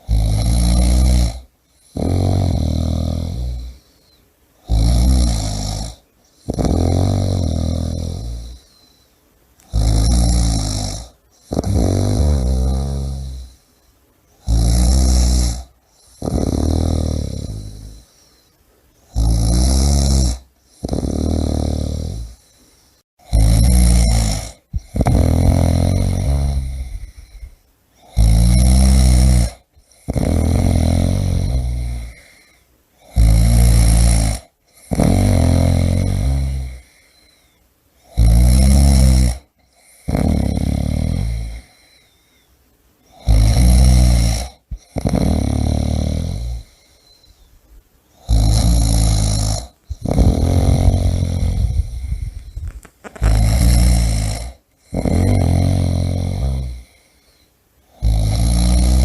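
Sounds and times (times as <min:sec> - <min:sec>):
person snoring: 0:00.0 - 0:09.0, 0:09.6 - 0:13.7, 0:14.4 - 0:18.4, 0:19.1 - 0:42.3, 0:43.1 - 0:47.5, 0:48.2 - 0:59.0.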